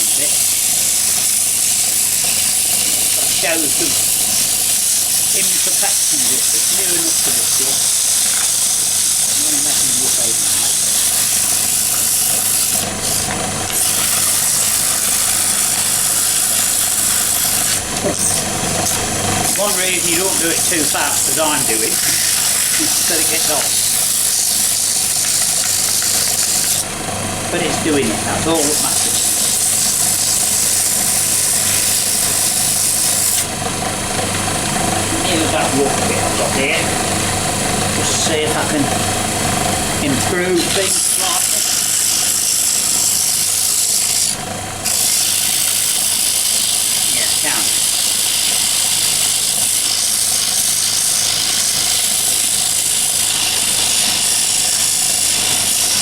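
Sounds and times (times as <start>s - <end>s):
sandpaper hissing on spinning wood: 0.0s - 18.0s, 19.4s - 33.6s, 35.0s - 56.0s
lathe motor hum: 0.0s - 56.0s.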